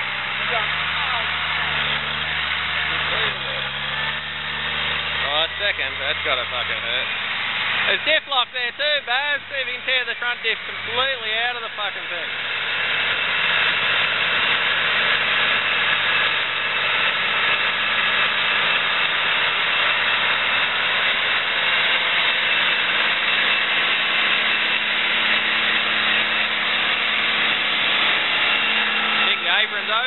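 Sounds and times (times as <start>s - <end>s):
tractor diesel engine straining: 0.0s - 30.0s.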